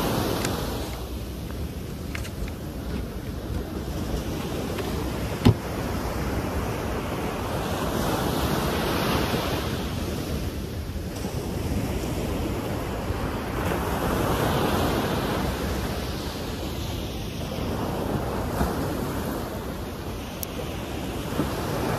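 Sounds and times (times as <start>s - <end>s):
ocean surf washing ashore: 0.0s - 21.9s
wind rumbling on microphone: 0.0s - 21.9s.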